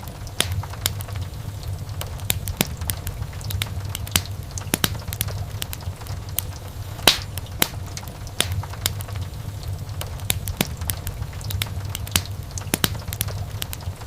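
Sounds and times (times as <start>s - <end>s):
low steady fire rumble: 0.0s - 14.0s
wood fire crackling and popping: 0.0s - 14.0s.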